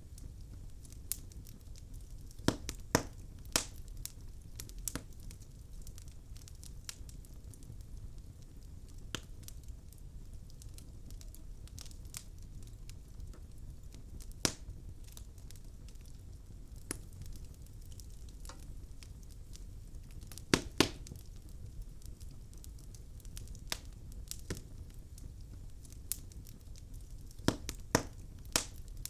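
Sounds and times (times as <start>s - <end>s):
fire pops: 0.0s - 29.0s
logs crackling in fire: 0.0s - 29.0s
low rumble of flame: 0.0s - 29.0s.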